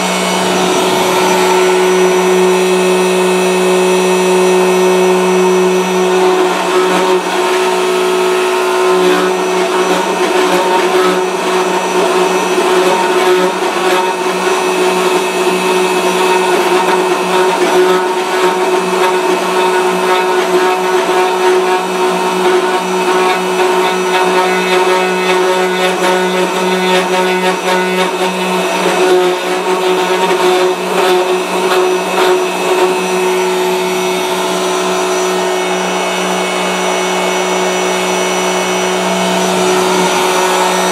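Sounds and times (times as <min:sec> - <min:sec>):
router motor cutting wood: 0:00.0 - 0:40.9.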